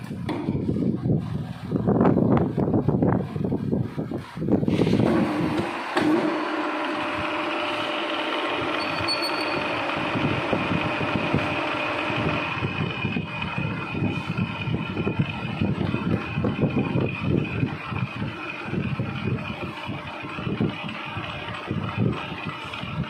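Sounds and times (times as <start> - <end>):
metal lathe running: 3.7 - 23.0.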